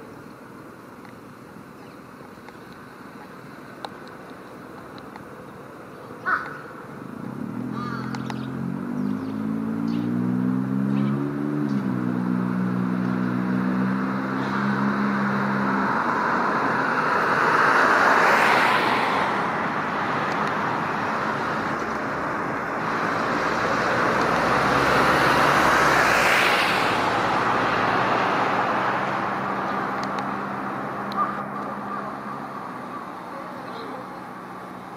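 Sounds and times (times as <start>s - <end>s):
vehicles passing by: 0.0s - 34.9s
low engine hum: 1.7s - 34.9s.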